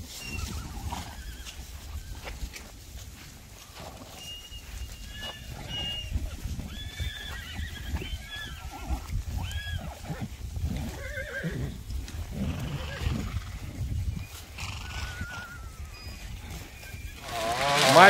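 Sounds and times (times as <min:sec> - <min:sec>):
horses whinnying: 0:00.0 - 0:02.7, 0:03.5 - 0:18.0.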